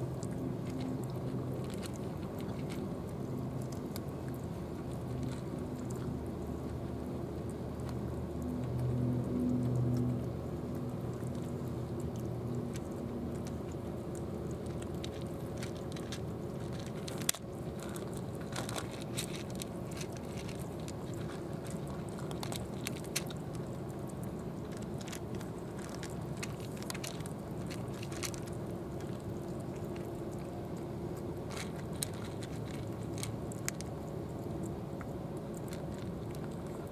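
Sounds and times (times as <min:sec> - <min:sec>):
cats crunching and chewing food: 0:00.0 - 0:36.9.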